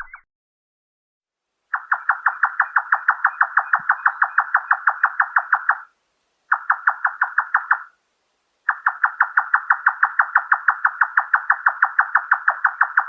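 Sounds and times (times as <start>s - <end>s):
nightjar calling: 1.7s - 8.0s, 8.7s - 13.0s.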